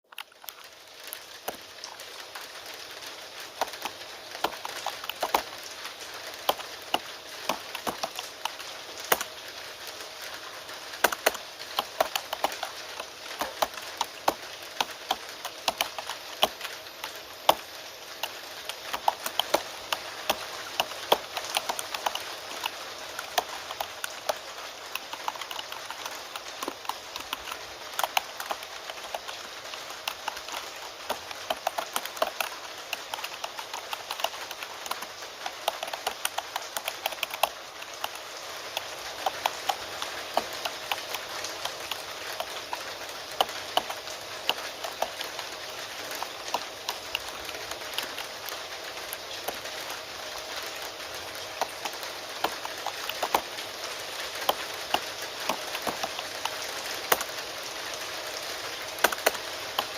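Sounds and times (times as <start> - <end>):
keyboard typing: 0.1 - 57.6, 58.4 - 59.9
falling rain hiss: 0.1 - 59.9.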